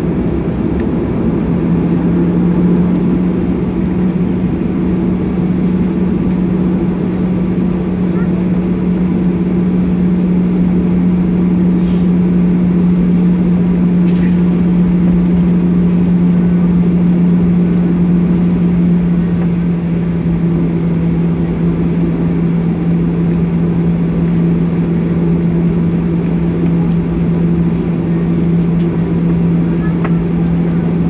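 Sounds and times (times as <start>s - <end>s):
jet engines humming in cabin: 0.0s - 31.0s.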